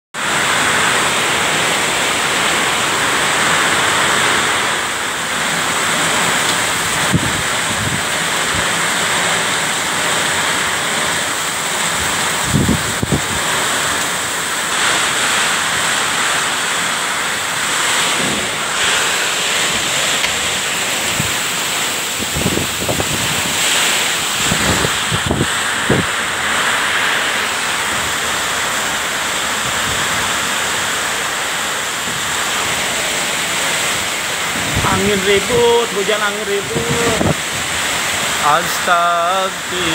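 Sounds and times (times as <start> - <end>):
gusting wind: 0.2 - 39.9
heavy rain: 0.2 - 39.9.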